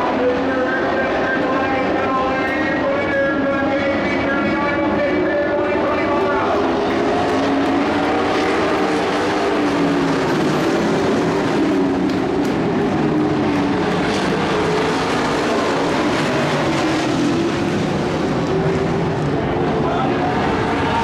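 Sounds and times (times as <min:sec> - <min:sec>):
racing engines running hard: 0:00.0 - 0:21.0.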